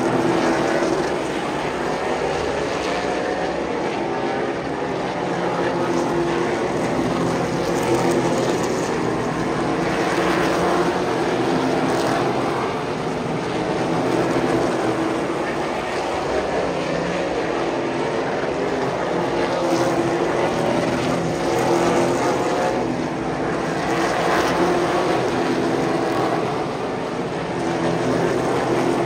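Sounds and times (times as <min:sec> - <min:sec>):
race car engines at speed: 0:00.0 - 0:29.0.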